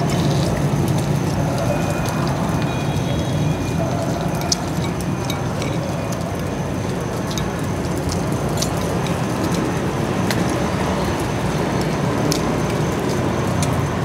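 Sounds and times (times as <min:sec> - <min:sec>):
rain: 0:00.0 - 0:14.0
road traffic rumble: 0:00.0 - 0:14.0.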